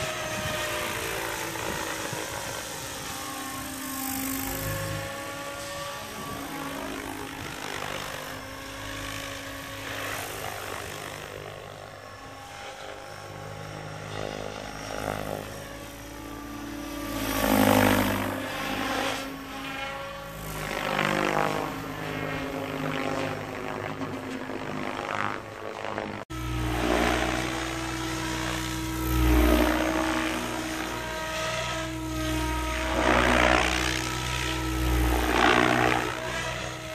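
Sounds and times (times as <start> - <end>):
helicopter rotor blades whooshing: 0.0 - 36.9
motor and gear whine: 0.0 - 36.9.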